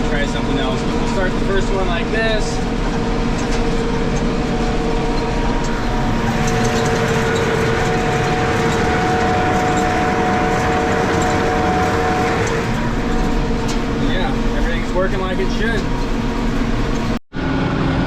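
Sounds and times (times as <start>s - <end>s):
tractor engine droning: 0.0s - 18.0s.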